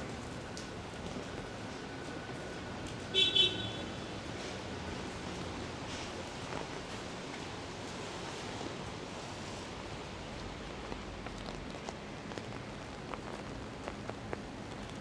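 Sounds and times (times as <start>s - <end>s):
raindrops ticking close by: 0.0s - 15.0s.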